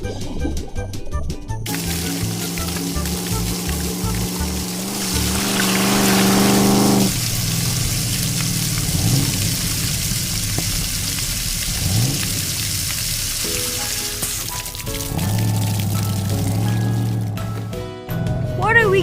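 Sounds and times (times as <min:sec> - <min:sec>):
rushing water-like hiss: 0:01.7 - 0:17.1.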